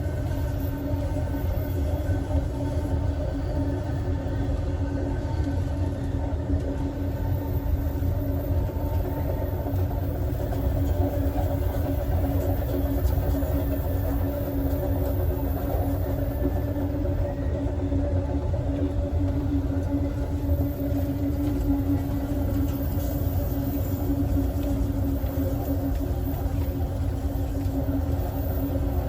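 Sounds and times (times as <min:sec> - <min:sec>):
constant hum: 0:00.0 - 0:29.0
train car rumbling on rails: 0:00.0 - 0:29.0.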